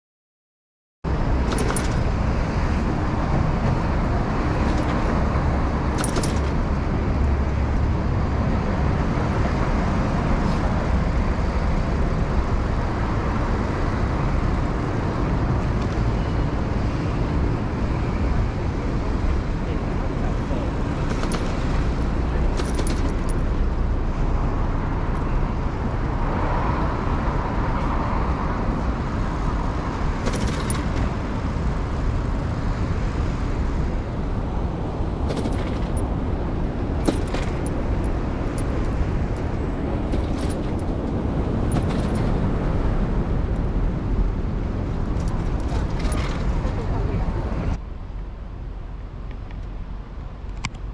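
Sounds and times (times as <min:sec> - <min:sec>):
road traffic: 0:01.0 - 0:50.9
wind noise: 0:01.1 - 0:50.9.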